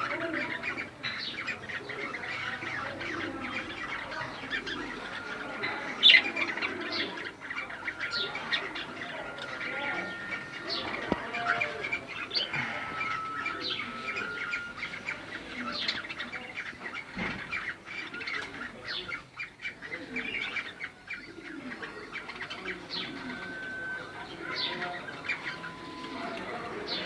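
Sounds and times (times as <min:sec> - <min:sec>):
cockatiels chirping: 0:00.0 - 0:27.0.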